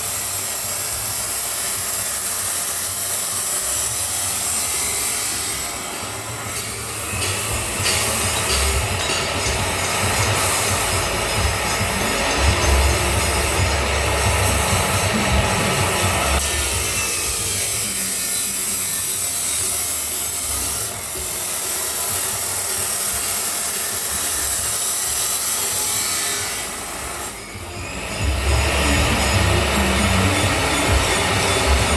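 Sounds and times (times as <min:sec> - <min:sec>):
grinder cutting steel pipe: 0:00.0 - 0:31.9.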